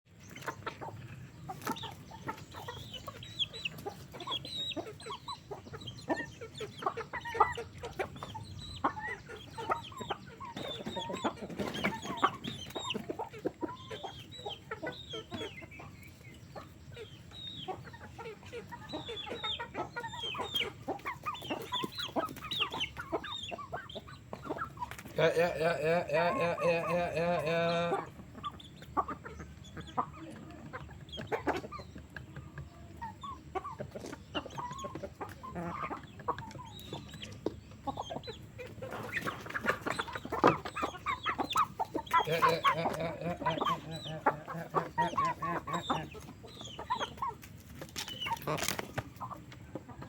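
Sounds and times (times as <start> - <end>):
chickens clucking: 0.1 - 50.0.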